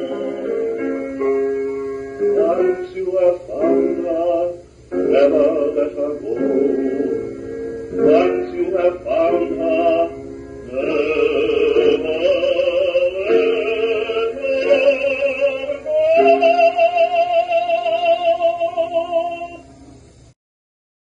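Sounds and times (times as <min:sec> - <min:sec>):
person singing ballad: 0:00.0 - 0:01.0, 0:02.2 - 0:07.3, 0:07.9 - 0:19.7
accompanying music: 0:00.0 - 0:20.2.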